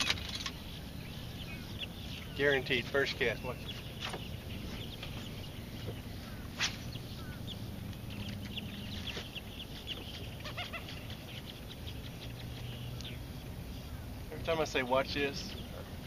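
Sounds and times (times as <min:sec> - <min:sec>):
birds chirping and calling: 0:00.0 - 0:16.0
steady low rumble: 0:00.0 - 0:16.0.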